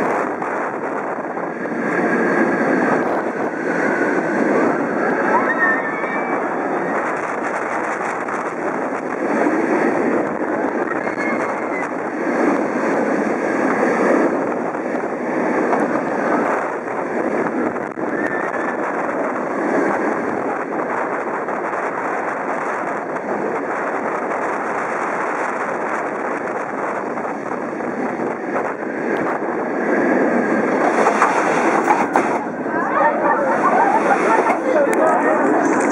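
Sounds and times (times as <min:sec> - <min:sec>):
roller coaster wheels rolling: 0:00.0 - 0:35.9
rush of wind: 0:00.0 - 0:35.9.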